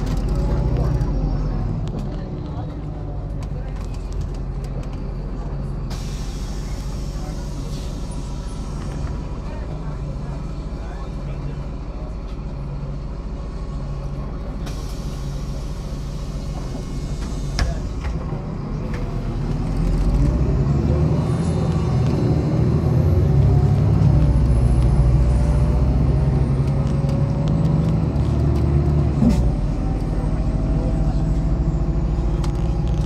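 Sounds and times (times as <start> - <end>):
bus diesel engine: 0.0 - 33.0.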